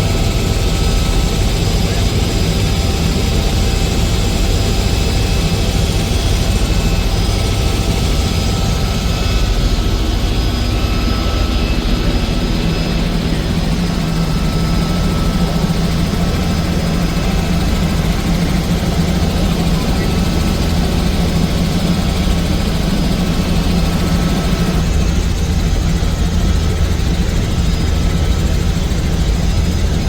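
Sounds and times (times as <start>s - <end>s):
helicopter rotor drone: 0.0s - 30.0s.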